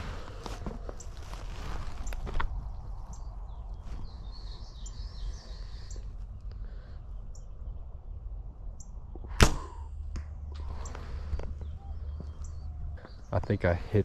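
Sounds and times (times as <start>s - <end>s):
small birds chirping: 0.2s - 9.9s, 10.5s - 14.0s.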